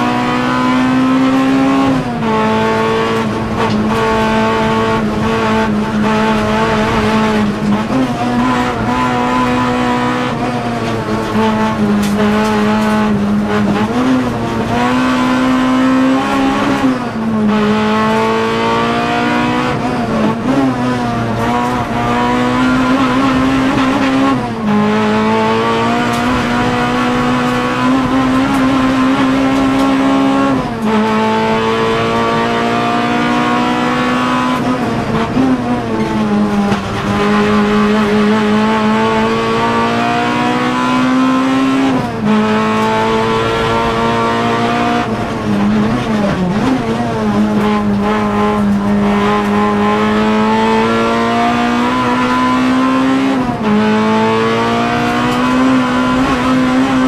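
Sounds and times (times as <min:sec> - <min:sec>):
car engine revving under load: 0:00.0 - 0:57.0.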